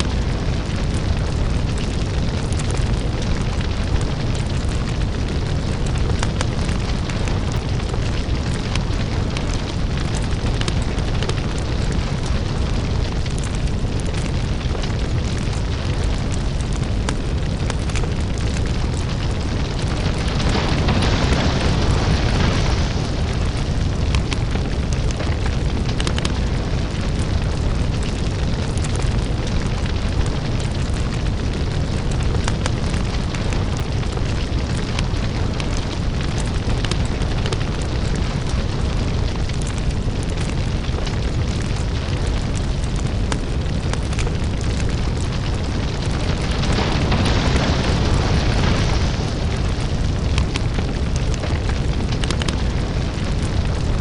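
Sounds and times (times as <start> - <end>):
deep rumble: 0.0 - 54.0
lava crackling and popping: 0.0 - 54.0.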